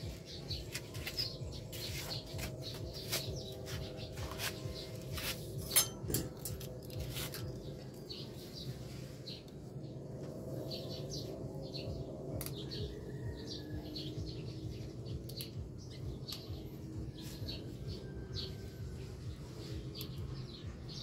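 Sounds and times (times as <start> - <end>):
low background hum: 0.0 - 21.0
small birds chirping: 0.0 - 21.0.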